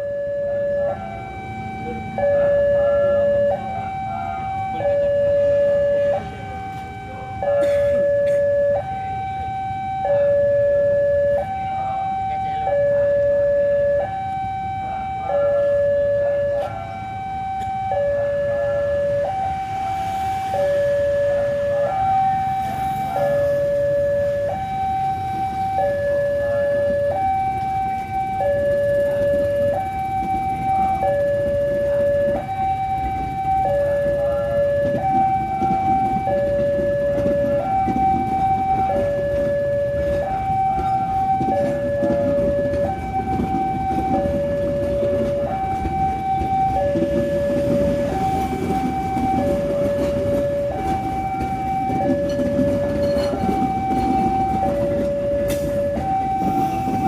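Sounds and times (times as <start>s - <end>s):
level-crossing two-tone alarm: 0.0s - 57.0s.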